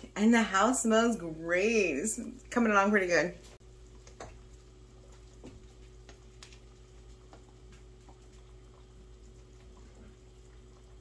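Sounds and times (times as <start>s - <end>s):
pot boiling and bubbling: 0.0s - 11.0s
steady low hum: 0.0s - 11.0s.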